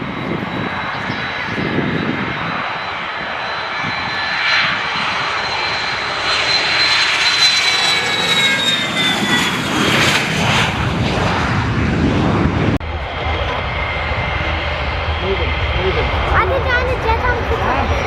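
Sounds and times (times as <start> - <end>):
airplane engines roaring: 0.0 - 18.0.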